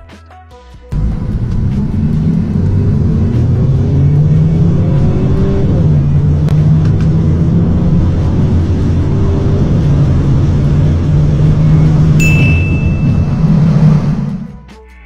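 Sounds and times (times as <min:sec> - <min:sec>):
car engine accelerating: 0:01.0 - 0:14.7.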